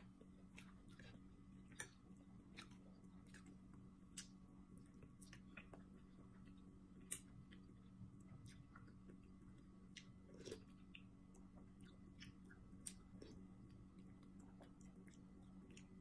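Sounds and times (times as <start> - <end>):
faint chewing: 0.0 - 16.0
steady low hum: 0.0 - 16.0.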